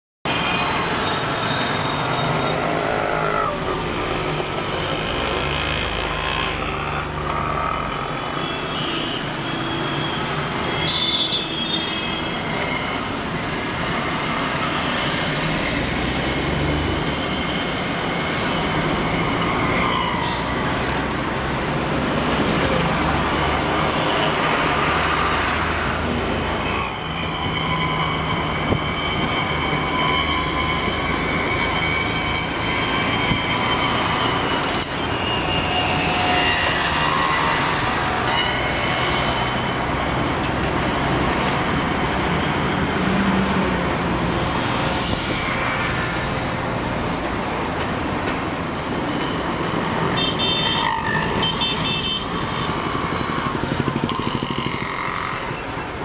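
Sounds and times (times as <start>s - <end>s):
car engine and road noise: 0.3s - 56.0s
passing vehicles: 0.3s - 56.0s.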